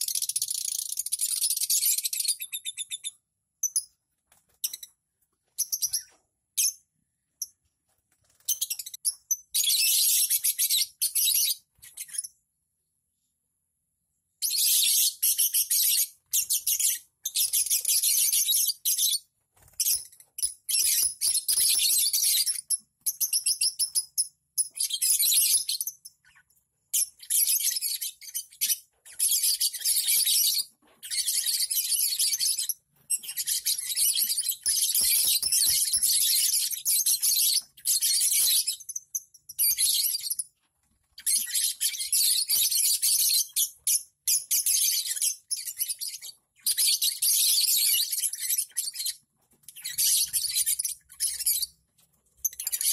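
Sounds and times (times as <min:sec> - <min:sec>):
lovebirds chirping: 0:00.0 - 0:07.6, 0:08.3 - 0:12.4, 0:14.4 - 0:52.9.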